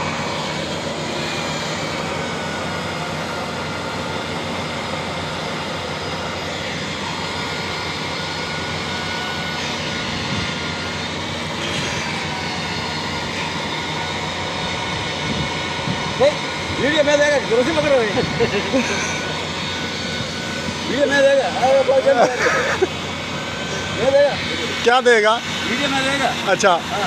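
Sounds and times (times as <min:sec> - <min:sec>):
core cutting machine drone: 0:00.0 - 0:27.0
faint whining tones: 0:00.0 - 0:27.0.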